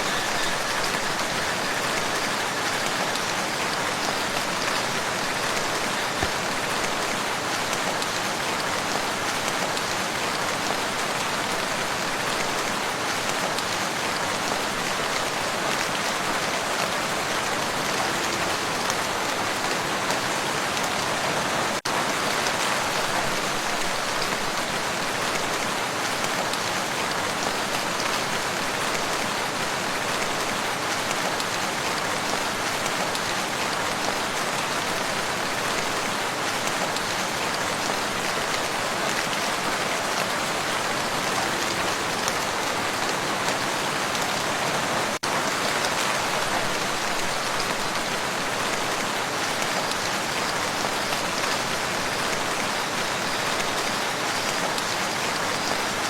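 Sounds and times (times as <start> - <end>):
rain falling on a lake: 0.0 - 56.0.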